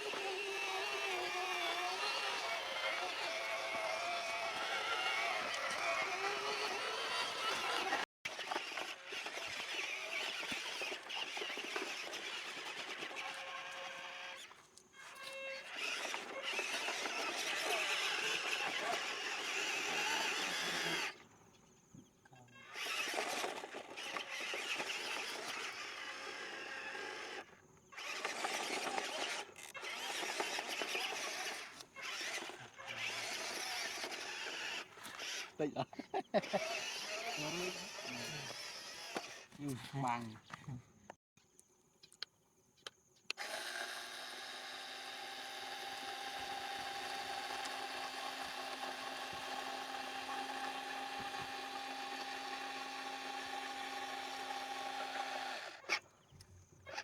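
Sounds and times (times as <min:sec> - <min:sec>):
small electric motors whirring: 0:00.0 - 0:40.8, 0:43.3 - 0:57.0.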